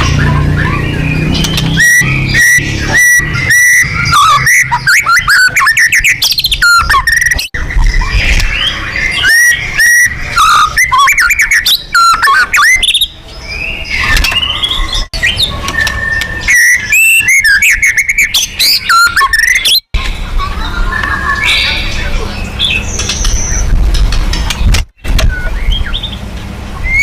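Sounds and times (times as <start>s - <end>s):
bird singing whistled phrases: 0.0s - 19.8s, 20.9s - 23.7s, 25.2s - 26.2s, 26.8s - 27.0s.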